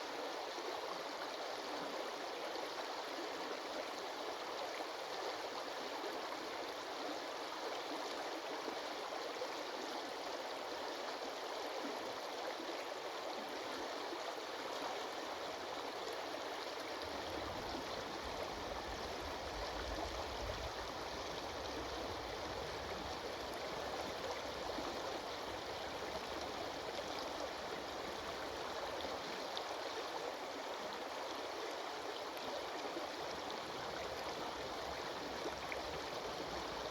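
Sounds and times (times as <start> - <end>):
stream of water flowing: 0.0 - 36.9.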